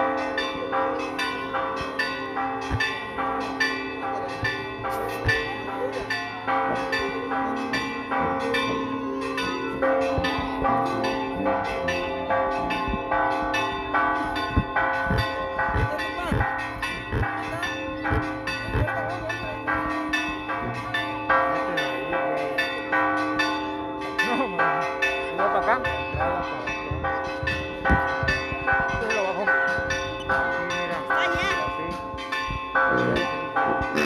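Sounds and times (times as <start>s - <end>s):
church bells ringing a peal: 0.0s - 34.0s.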